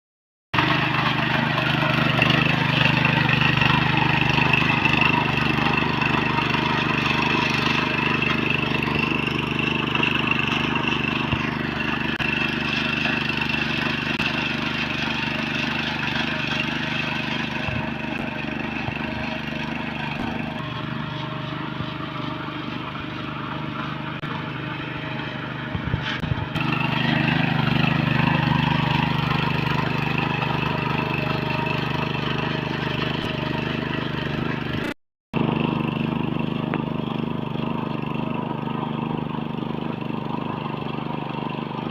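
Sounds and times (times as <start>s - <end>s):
tractor diesel engine under load: 0.6s - 41.9s.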